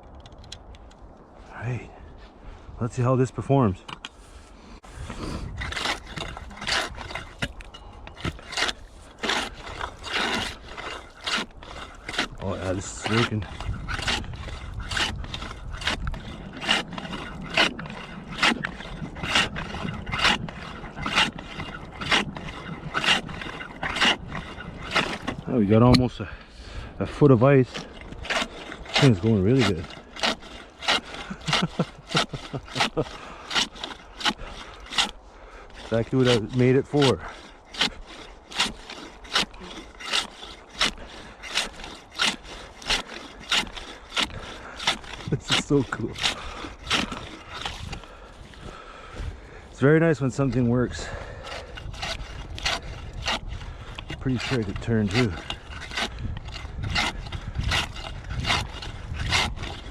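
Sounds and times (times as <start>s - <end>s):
hand saw cutting ice: 4.8s - 59.9s.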